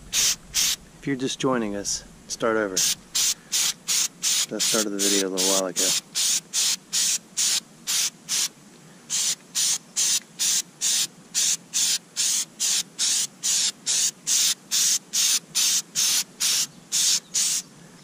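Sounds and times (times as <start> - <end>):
aerosol spray hisses: 0.0 - 0.8, 2.7 - 8.5, 9.1 - 17.6.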